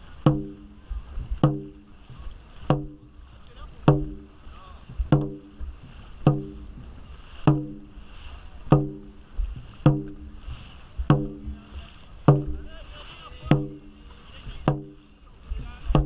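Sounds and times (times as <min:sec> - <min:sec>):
drum booming: 0:00.0 - 0:16.0
paddles splashing water: 0:00.0 - 0:16.0.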